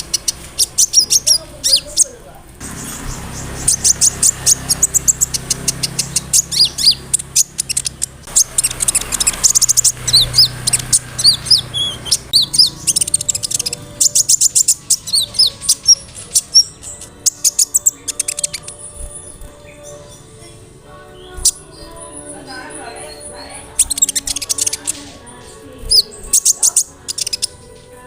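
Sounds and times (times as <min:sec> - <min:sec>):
bird singing chattering song: 0:00.0 - 0:28.0.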